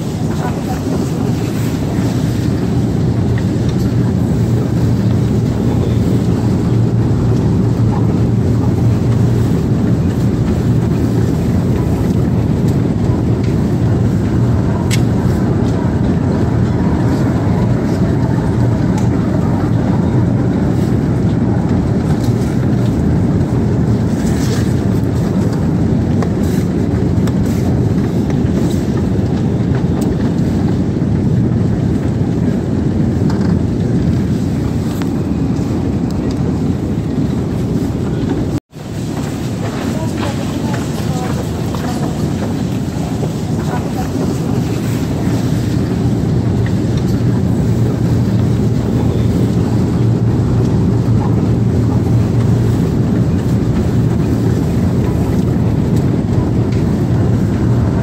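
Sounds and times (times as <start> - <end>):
escalator hum and rumble: 0.0 - 58.0.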